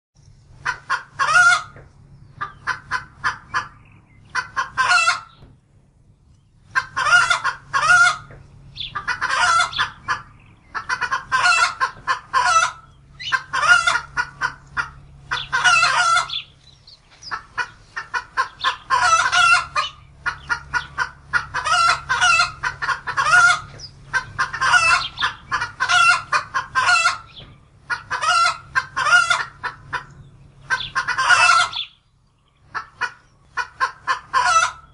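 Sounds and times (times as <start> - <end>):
hen cackling: 0.5 - 5.5, 6.6 - 34.9.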